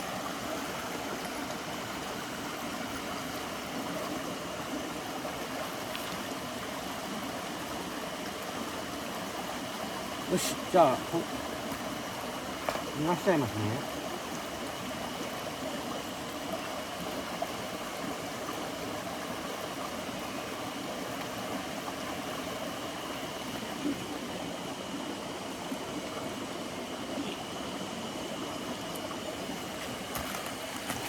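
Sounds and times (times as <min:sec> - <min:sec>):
mountain stream flowing: 0:00.0 - 0:31.0.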